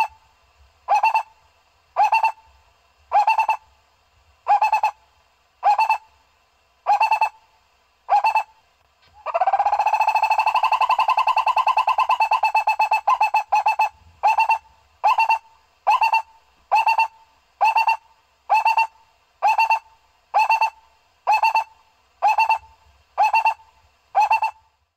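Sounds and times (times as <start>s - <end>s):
barbet calls: 0.0s - 0.2s, 0.9s - 1.4s, 2.0s - 2.5s, 3.1s - 3.7s, 4.4s - 5.0s, 5.6s - 6.1s, 6.8s - 7.4s, 8.1s - 24.7s.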